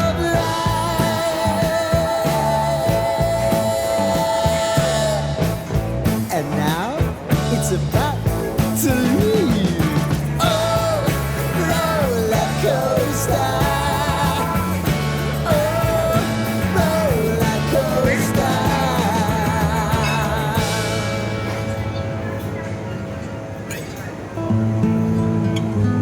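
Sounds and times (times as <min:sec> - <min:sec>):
rock song with bending lead melody: 0:00.0 - 0:25.8.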